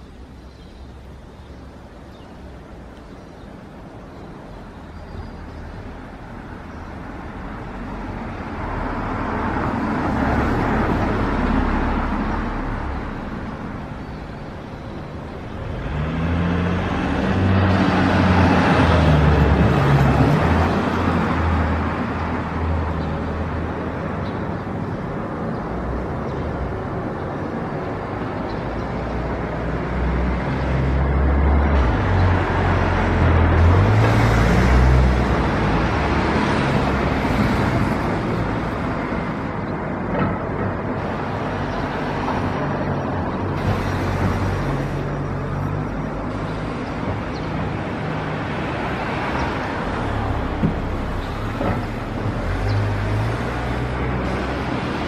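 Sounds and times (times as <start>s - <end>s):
low traffic rumble: 0.0s - 55.0s
vehicles passing: 0.0s - 55.0s.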